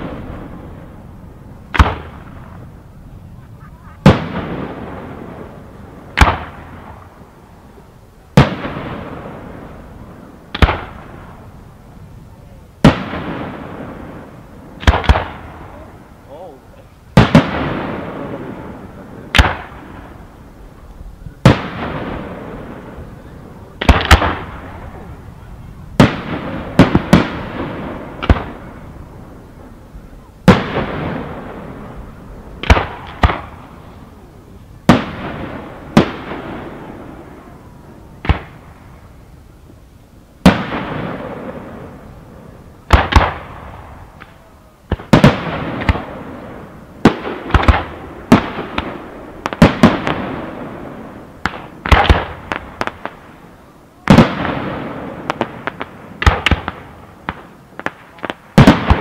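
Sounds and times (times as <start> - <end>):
fireworks bangs: 0.0 - 39.8, 40.4 - 59.0.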